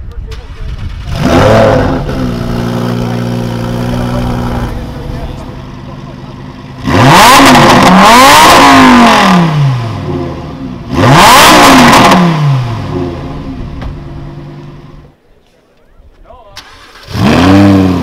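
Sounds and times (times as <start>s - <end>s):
car engine revving: 0.4s - 15.1s, 16.6s - 18.0s.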